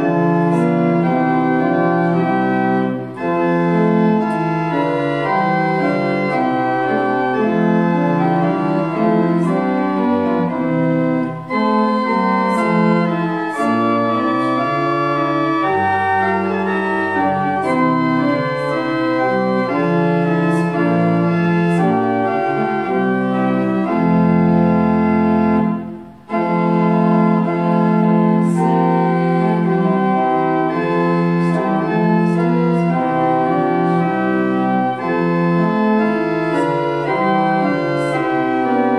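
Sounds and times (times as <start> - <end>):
church organ playing a hymn: 0.0 - 38.9.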